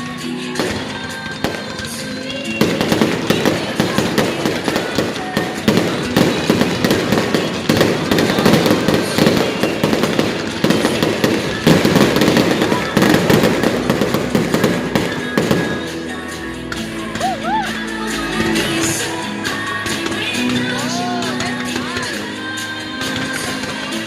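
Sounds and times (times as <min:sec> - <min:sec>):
fireworks crackling and banging: 0:00.0 - 0:24.0
music: 0:00.0 - 0:24.0.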